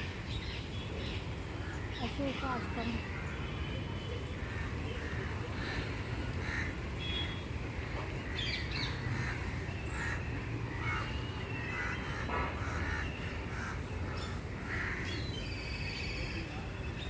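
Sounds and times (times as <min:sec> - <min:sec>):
birds calling: 0:00.0 - 0:16.3.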